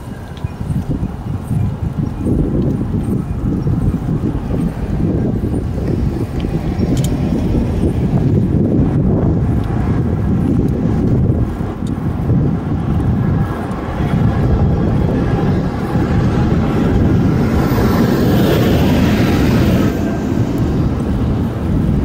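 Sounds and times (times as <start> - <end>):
bicycle road rumble: 0.0 - 22.0
wind buffeting microphone: 0.0 - 22.0.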